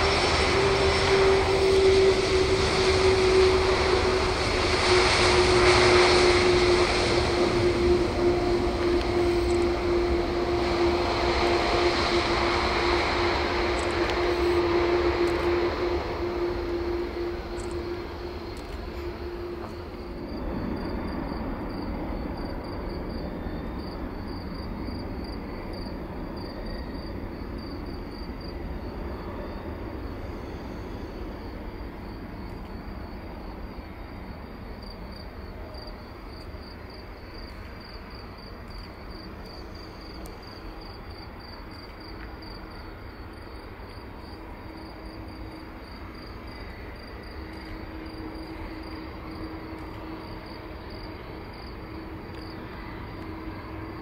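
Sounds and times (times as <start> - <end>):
insects chirping: 0.0 - 54.0
jet engines rumbling: 0.0 - 54.0.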